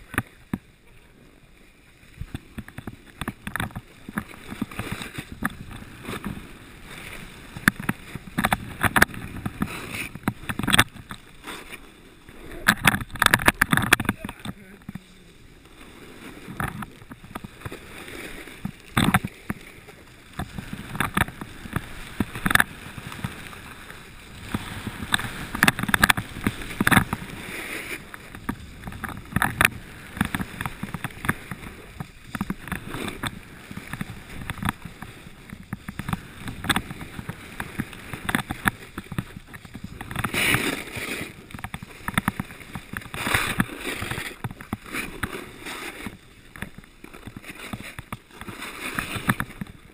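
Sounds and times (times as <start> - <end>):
snowboard scraping on snow: 1.0 - 12.6, 14.6 - 49.9.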